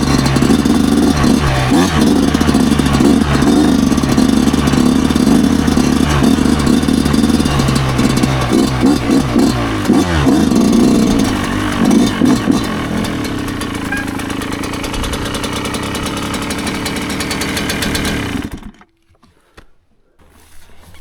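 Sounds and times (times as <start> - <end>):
motorcycle engine blipping and idling: 0.0 - 19.1.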